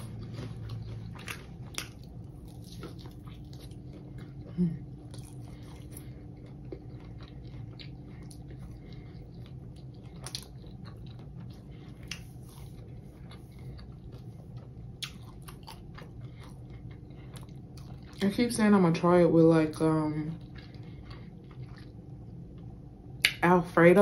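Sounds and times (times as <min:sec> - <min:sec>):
chewing with crunches: 0:00.0 - 0:23.4.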